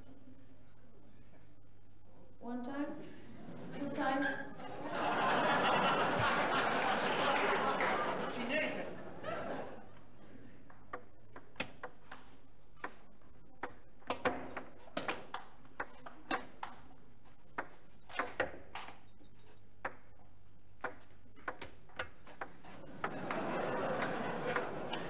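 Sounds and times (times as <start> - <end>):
hall background noise: 0.0 - 25.0.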